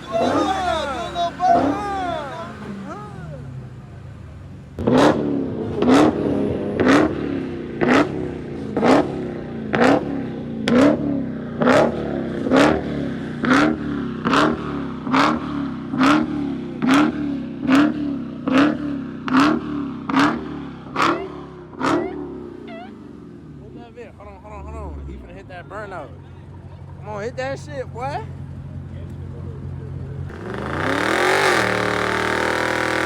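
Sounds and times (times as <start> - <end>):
car engine idling: 0.0 - 33.0
car engine throttle blips: 0.0 - 33.0
exhaust crack: 0.0 - 33.0.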